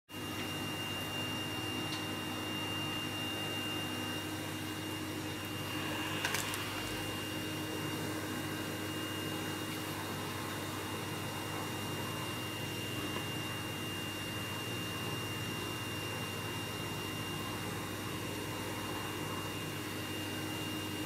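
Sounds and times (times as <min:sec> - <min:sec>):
vacuum cleaner running: 0:00.1 - 0:21.0.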